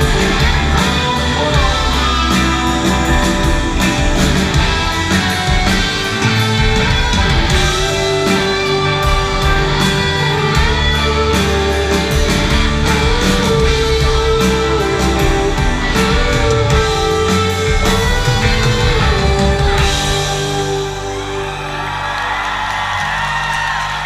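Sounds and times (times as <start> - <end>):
rock music with electric guitar: 0.0 - 24.0.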